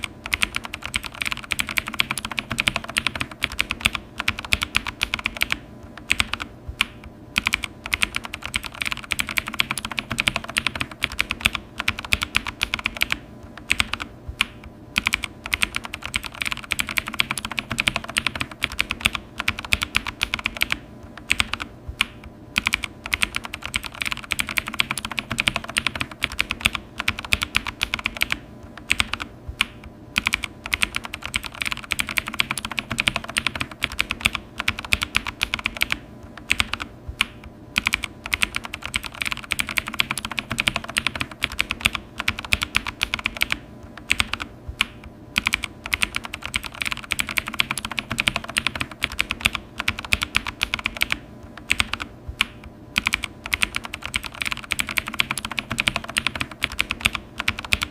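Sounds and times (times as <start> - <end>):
keyboard typing: 0.0 - 57.9.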